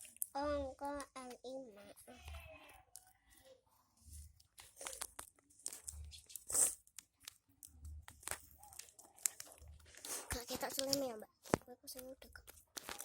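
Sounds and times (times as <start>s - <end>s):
crackling handling noises: 0.0s - 13.0s.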